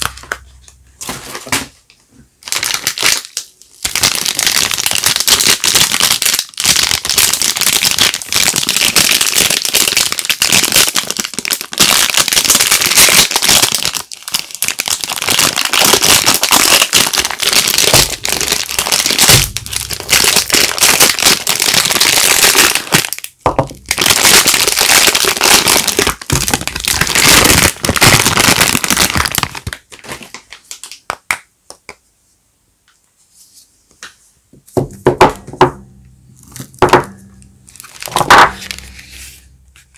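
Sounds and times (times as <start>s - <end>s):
wrappers crinkling by hand: 0.0s - 31.8s, 36.3s - 39.9s.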